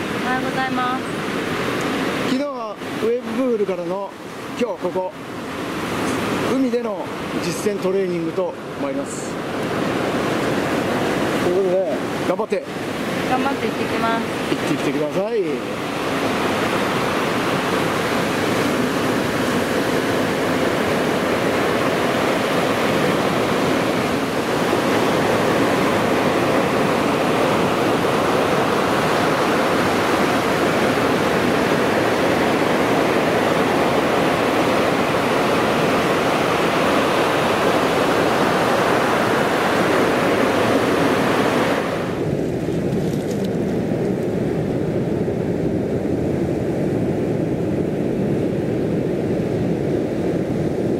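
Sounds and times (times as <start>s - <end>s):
ocean surf breaking: 0.0s - 50.9s
wind on microphone: 0.0s - 50.9s.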